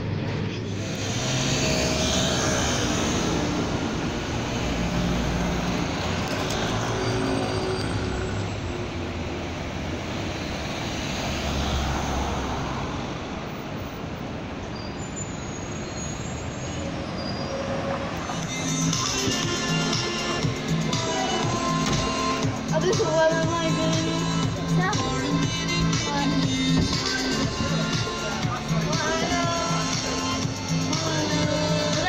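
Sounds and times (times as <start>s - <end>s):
cars and bus engines: 0.0s - 32.0s
tyres on road: 0.0s - 32.0s.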